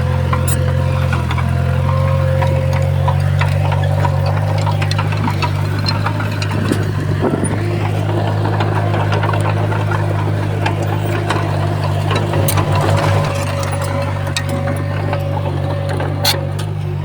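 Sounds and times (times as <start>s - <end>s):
bulldozer diesel engine running: 0.0s - 17.0s
clanks from tracks and stone: 0.1s - 17.0s.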